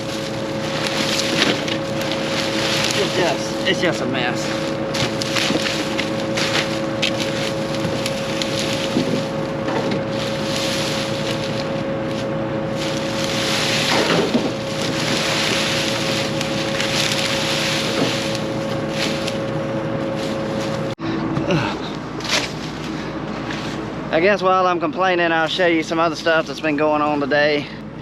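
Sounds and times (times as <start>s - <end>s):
stalks crackling and snapping: 0.0s - 21.0s, 21.9s - 23.6s
combine harvester humming: 0.0s - 28.0s.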